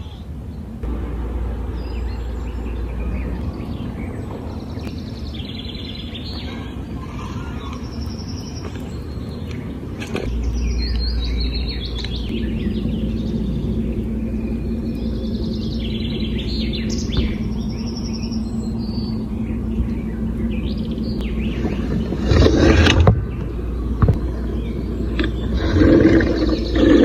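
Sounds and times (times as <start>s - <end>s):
birds chirping: 0.0s - 27.0s
steady low rumble: 0.0s - 27.0s.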